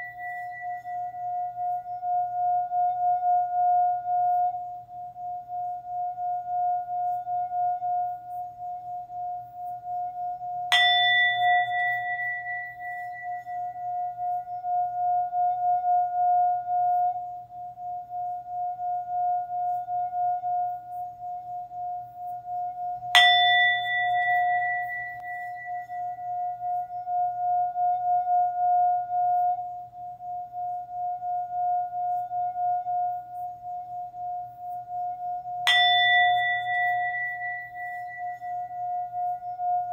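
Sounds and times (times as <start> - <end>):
singing bowl ringing: 0.0 - 39.9.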